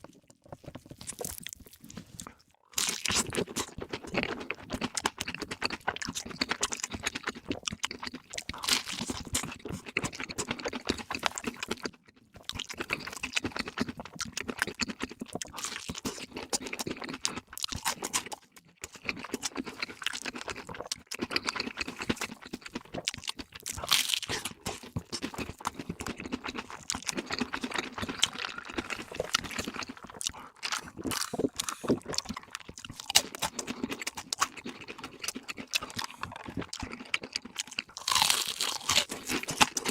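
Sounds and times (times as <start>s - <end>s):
crunching and chewing food: 0.0s - 39.9s.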